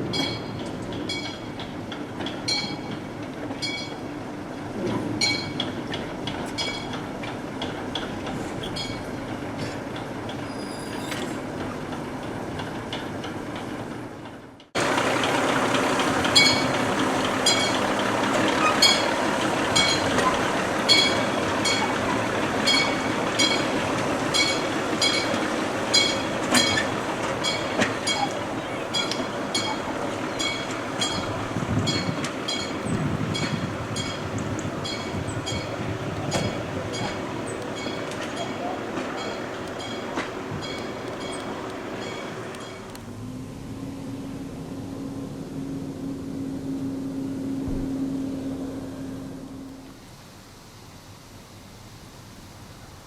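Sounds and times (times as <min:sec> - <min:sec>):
train wheels clacking over rail joints: 0:00.0 - 0:43.1
steady train rumble: 0:00.0 - 0:53.0.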